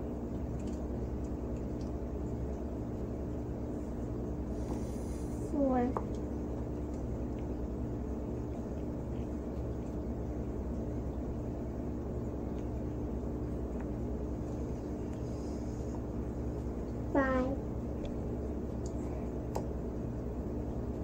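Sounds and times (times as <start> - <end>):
low hum and rumble: 0.0 - 21.0.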